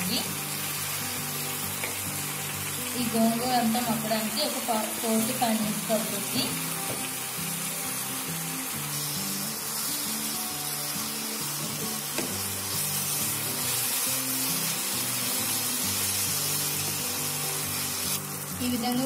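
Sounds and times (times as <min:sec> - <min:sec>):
leaves sizzling in hot oil: 0:00.0 - 0:19.0
soft background music: 0:00.0 - 0:19.0.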